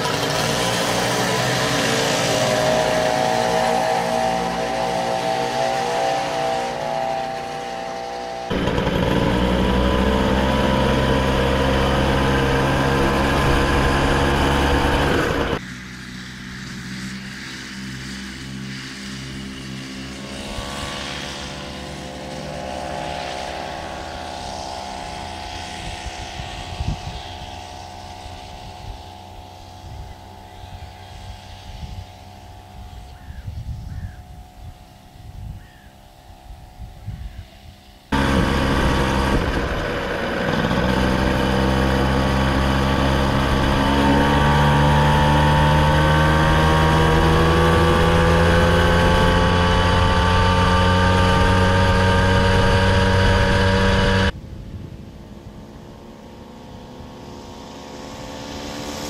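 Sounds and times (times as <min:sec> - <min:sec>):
deep engine rumble: 0:00.0 - 0:15.9, 0:19.2 - 0:59.0
moped engines running: 0:00.0 - 0:54.4
distant moped drone: 0:00.0 - 0:59.0.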